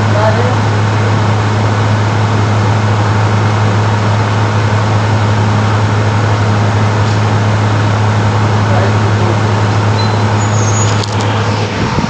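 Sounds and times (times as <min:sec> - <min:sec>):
fan motor humming: 0:00.0 - 0:12.0.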